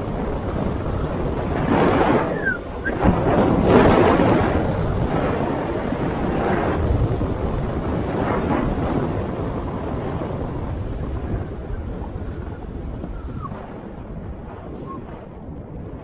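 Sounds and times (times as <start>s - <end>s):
road and tyre rumble: 0.0s - 16.0s
wind buffeting microphone: 0.0s - 16.0s.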